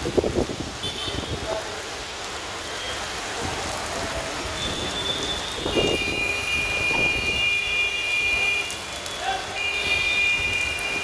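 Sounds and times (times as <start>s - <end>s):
heavy rain on road: 0.0s - 11.0s.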